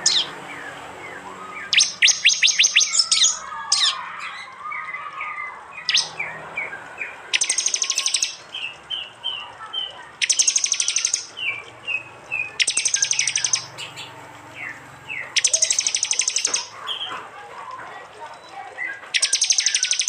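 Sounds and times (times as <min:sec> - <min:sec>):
bird rapid chattering calls: 0:00.0 - 0:04.5, 0:05.7 - 0:17.2, 0:18.8 - 0:20.0
high whistled bird notes: 0:00.0 - 0:13.8, 0:14.6 - 0:17.0, 0:19.1 - 0:20.0.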